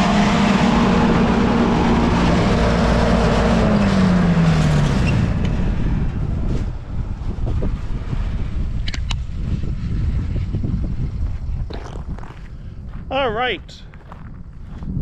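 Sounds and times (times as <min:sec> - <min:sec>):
drive engine humming: 0:00.0 - 0:15.0.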